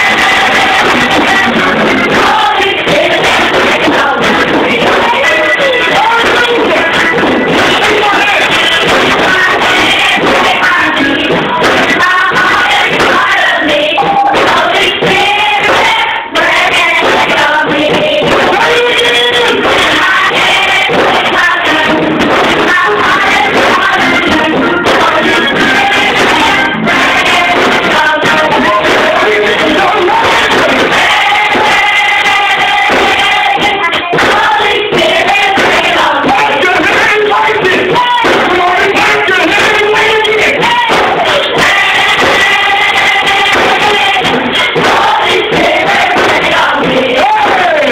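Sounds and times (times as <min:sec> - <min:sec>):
children's choir singing: 0:00.0 - 0:47.9
musical accompaniment: 0:00.0 - 0:47.9.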